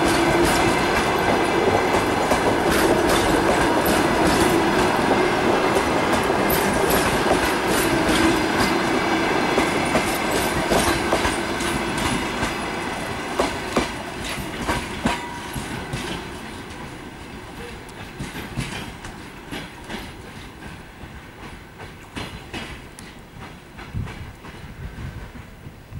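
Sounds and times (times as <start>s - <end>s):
train wheels clicking over rail joints: 0.0s - 25.7s.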